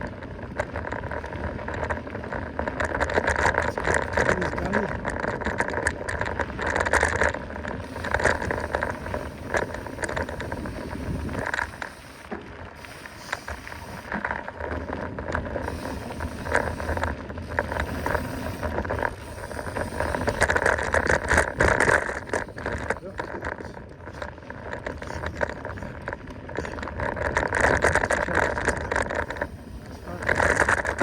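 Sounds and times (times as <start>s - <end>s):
bike clicks and rattles: 0.0s - 31.0s
bike tyres on dirt: 0.0s - 31.0s
steady low rumble: 3.6s - 31.0s.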